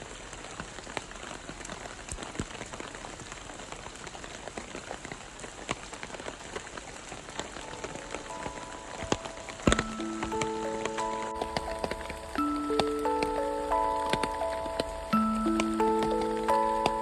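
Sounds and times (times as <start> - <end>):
rain falling in a forest: 0.0 - 17.0.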